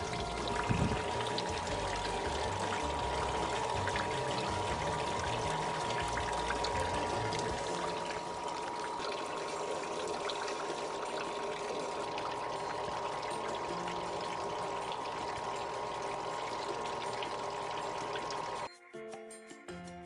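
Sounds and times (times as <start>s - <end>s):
liquid pouring and splashing: 0.0s - 18.7s
pump humming: 0.0s - 18.7s.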